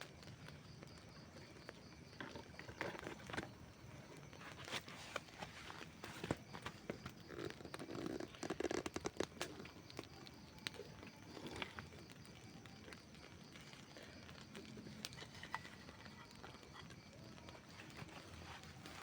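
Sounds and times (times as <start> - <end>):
wood crackling and popping: 0.0 - 19.0.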